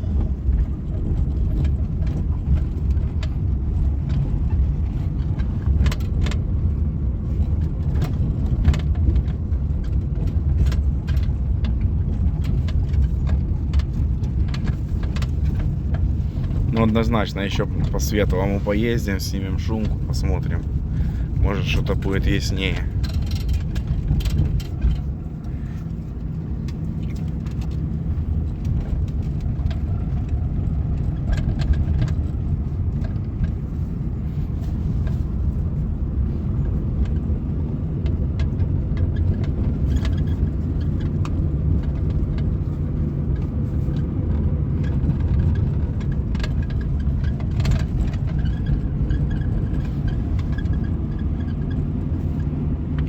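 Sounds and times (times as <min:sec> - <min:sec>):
car cabin road rumble: 0:00.0 - 0:53.0
clicks and rattles: 0:00.5 - 0:53.0.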